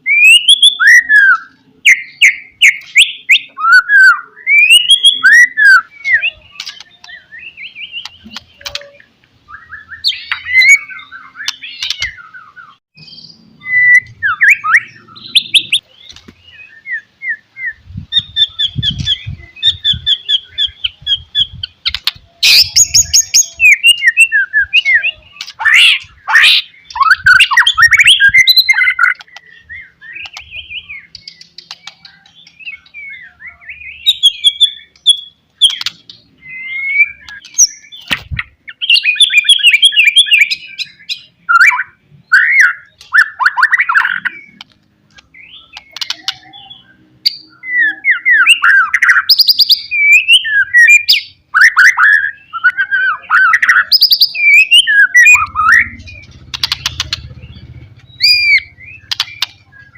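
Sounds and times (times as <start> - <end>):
bird singing whistles and chirps: 0.0 - 44.7, 45.3 - 59.9.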